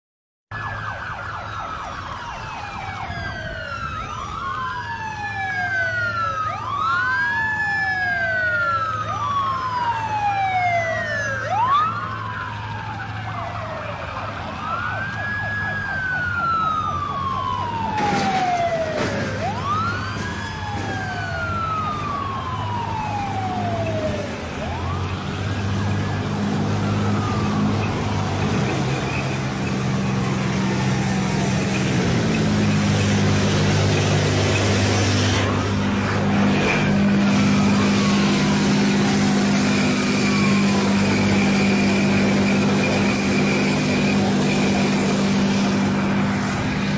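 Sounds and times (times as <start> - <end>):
police sirens wailing: 0.5 - 46.9.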